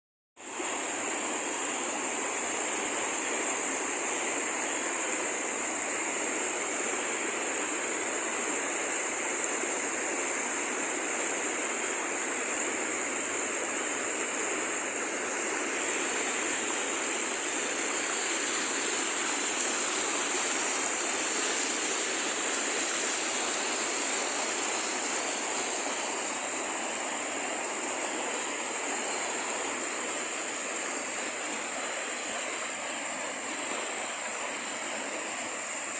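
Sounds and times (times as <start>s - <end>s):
waterfall rushing: 0.4s - 35.9s.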